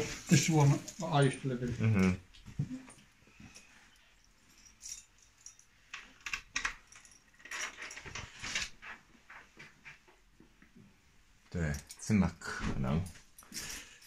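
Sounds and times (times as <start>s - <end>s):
faint room noise: 0.0s - 14.0s.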